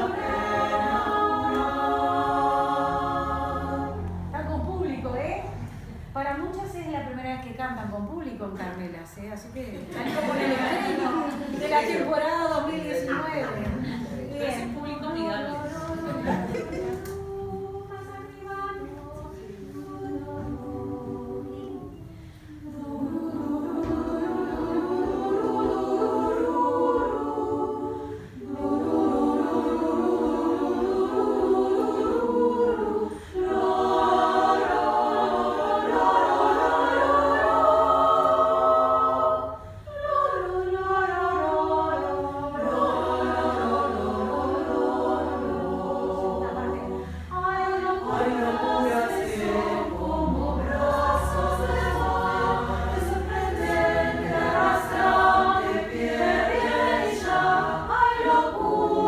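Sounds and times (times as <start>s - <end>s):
women's choir singing: 0.0s - 59.0s.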